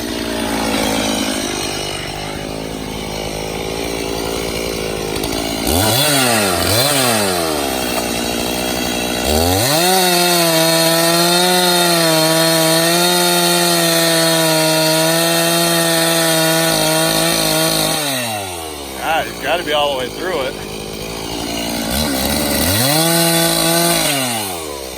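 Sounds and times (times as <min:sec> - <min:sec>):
chainsaw cutting wood: 0:00.0 - 0:24.9
chainsaw revving: 0:00.0 - 0:24.9.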